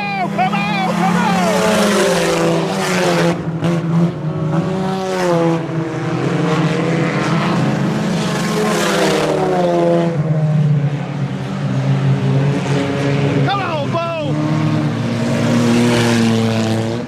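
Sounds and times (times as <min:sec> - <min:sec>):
race car engines rising and falling: 0:00.0 - 0:17.0.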